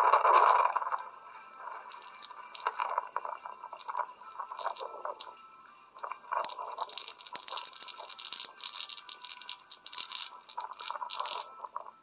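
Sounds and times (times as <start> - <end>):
sharp clicks and rattles: 0.0 - 5.4, 6.0 - 12.0
crinkling and rustling: 0.0 - 12.0.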